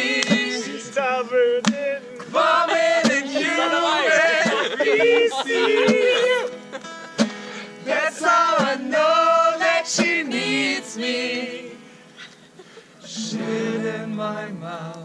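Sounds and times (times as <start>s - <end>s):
people singing together: 0.0s - 6.8s, 7.4s - 15.0s.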